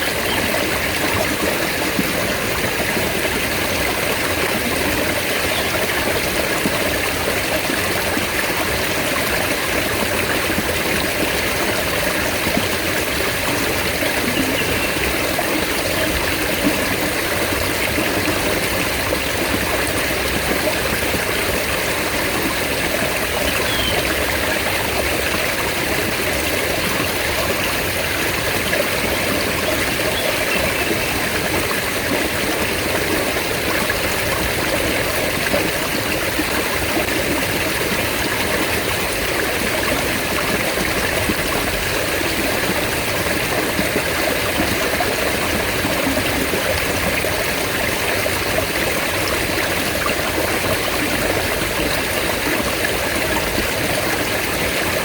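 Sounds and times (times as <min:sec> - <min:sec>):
stream water flowing and splashing: 0:00.0 - 0:55.0.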